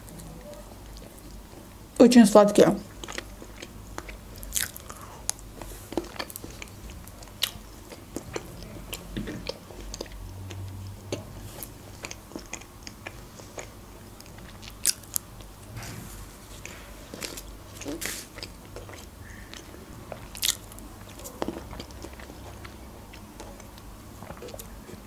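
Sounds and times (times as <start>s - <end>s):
close-miked chewing: 0.0s - 1.8s, 2.8s - 15.6s, 16.5s - 25.0s.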